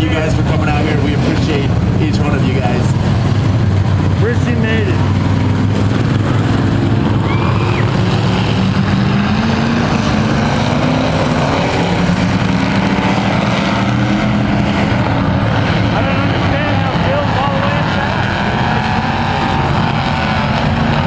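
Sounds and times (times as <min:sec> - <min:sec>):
race truck engines: 0:00.0 - 0:21.0.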